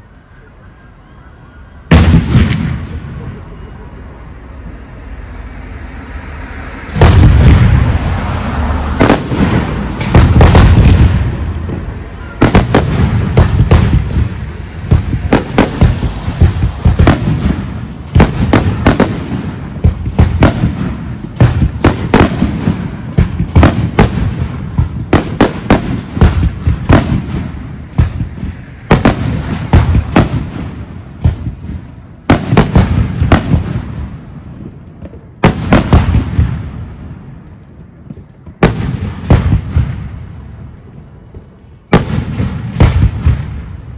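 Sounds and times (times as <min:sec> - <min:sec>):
fireworks sharp bangs: 0:00.0 - 0:43.9
fireworks deep booms: 0:01.8 - 0:04.2, 0:06.8 - 0:43.9.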